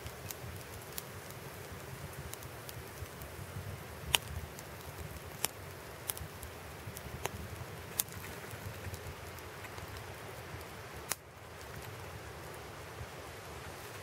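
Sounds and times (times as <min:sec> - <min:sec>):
wood crackling pops: 0:00.0 - 0:03.4, 0:04.0 - 0:12.6
stove fire low rumble: 0:00.0 - 0:14.0.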